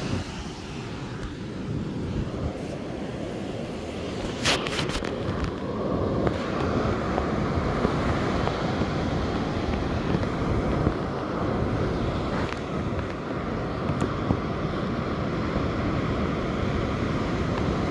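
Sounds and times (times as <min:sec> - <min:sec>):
breaking surf: 0:00.0 - 0:17.9
wind noise on microphone: 0:00.0 - 0:17.9.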